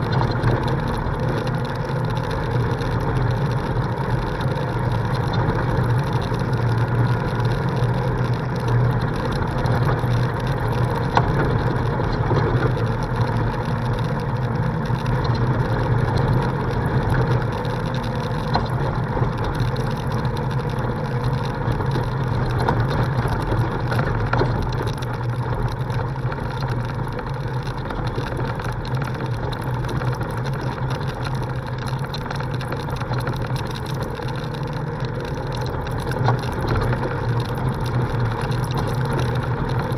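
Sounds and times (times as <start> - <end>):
off-road vehicle engine drone: 0.0 - 39.9.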